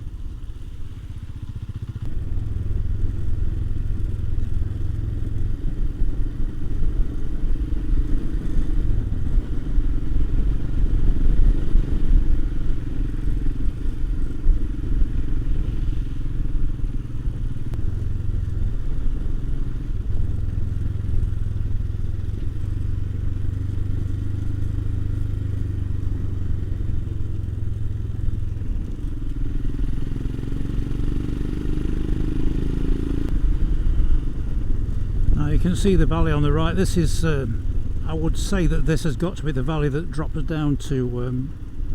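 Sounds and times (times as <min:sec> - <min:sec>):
motorcycle engine rumble: 0:00.0 - 0:41.9.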